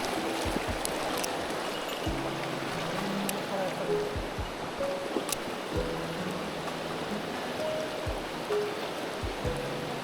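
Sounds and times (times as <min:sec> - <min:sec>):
music with held low notes: 0:00.0 - 0:10.0
stream rushing: 0:00.0 - 0:10.0.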